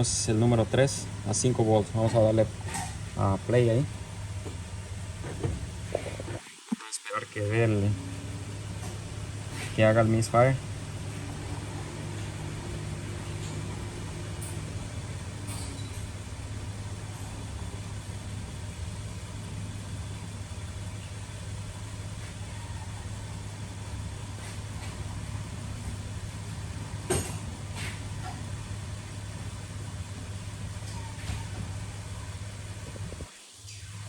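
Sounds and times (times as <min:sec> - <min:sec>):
car engine idling with misfire: 0:00.0 - 0:06.4, 0:07.3 - 0:34.0.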